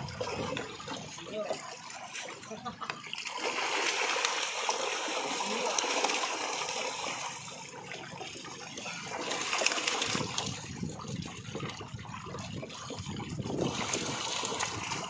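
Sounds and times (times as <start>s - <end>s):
fish thrashing and splashing: 0.0s - 15.0s.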